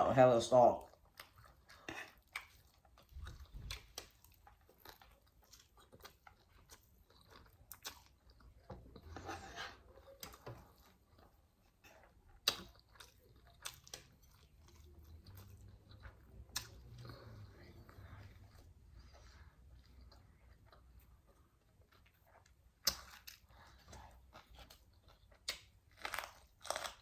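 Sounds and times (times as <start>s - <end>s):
person chewing food: 0.8s - 27.0s.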